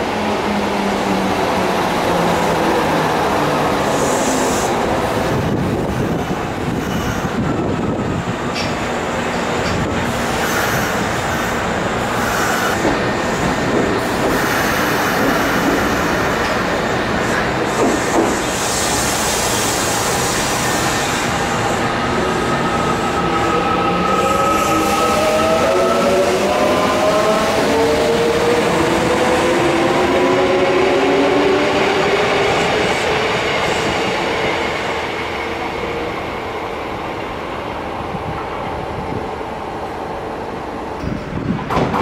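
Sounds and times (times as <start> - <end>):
electric train rumbling: 0.0 - 42.0
train running gear whining: 3.2 - 39.2.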